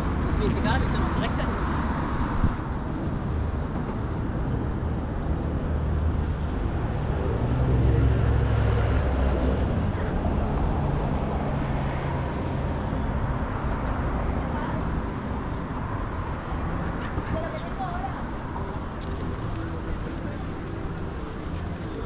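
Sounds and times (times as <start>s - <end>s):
low traffic rumble: 0.0s - 22.0s
vehicle engine humming: 0.0s - 22.0s.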